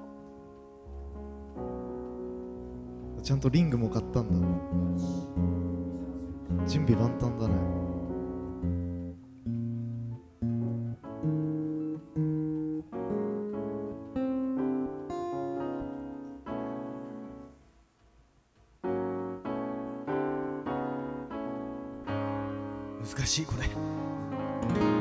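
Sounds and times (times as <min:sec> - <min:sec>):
piano chords and notes: 0:00.0 - 0:25.0.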